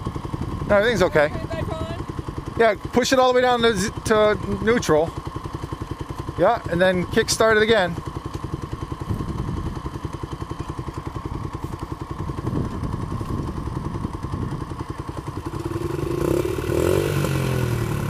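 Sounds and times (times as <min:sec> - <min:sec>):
dirt bike engine idling: 0:00.0 - 0:18.0.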